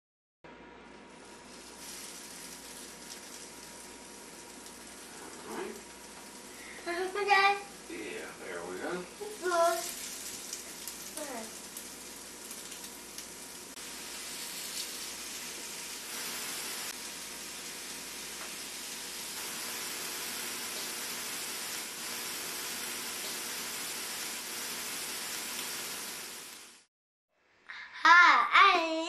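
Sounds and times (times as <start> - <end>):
sausage patties sizzling: 1.1 - 26.9.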